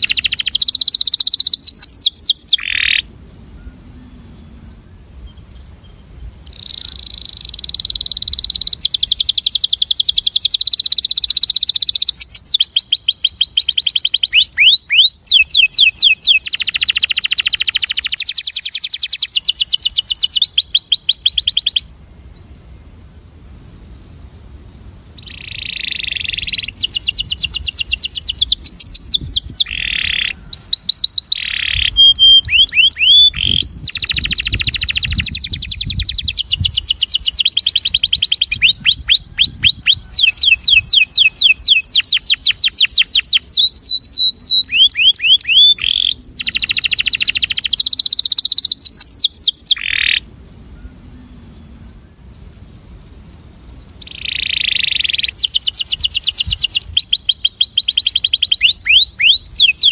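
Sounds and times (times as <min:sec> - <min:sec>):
canary singing trills: 0:00.0 - 0:21.9, 0:25.1 - 0:50.2, 0:52.3 - 0:59.9.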